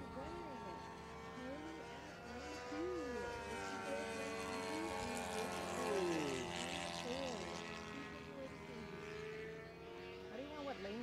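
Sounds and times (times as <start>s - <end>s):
model plane engines whining: 0.0s - 11.0s.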